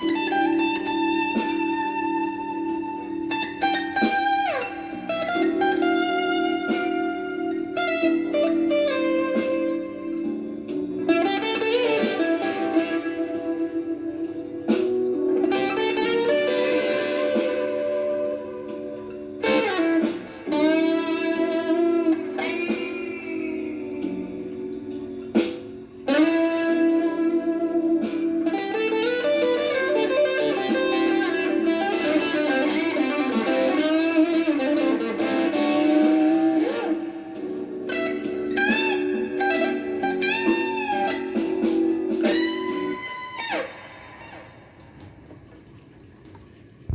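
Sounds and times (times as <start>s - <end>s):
electric guitar blues lead: 0.0s - 45.4s.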